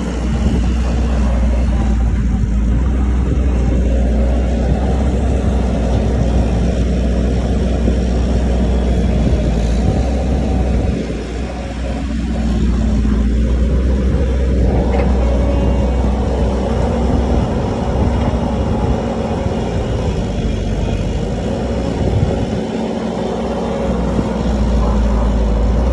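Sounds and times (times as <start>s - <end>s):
diesel engine rumbling: 0.0s - 25.9s.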